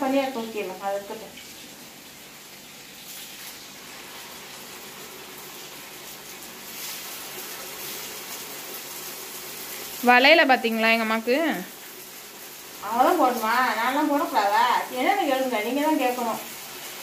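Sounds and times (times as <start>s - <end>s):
hot oil sizzling: 0.0s - 17.0s.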